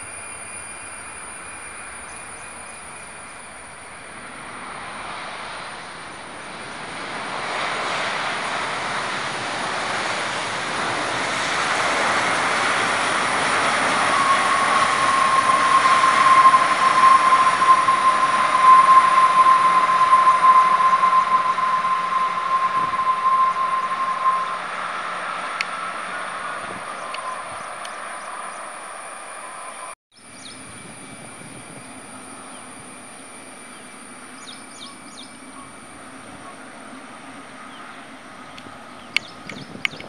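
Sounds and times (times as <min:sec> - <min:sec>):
high fan whine: 0:00.0 - 0:40.0
jet engines roaring: 0:00.0 - 0:40.0.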